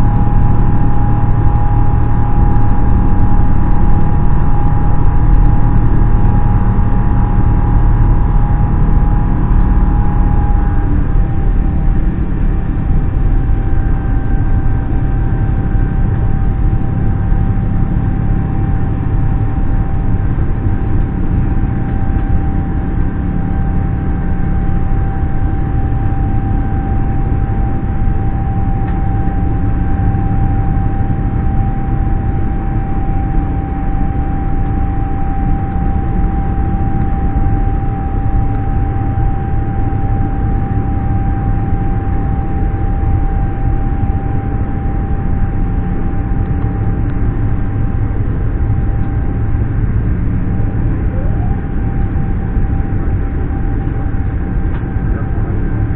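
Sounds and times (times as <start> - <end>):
airplane cabin engine rumble: 0.0 - 55.9
thin steady whine: 0.0 - 55.9.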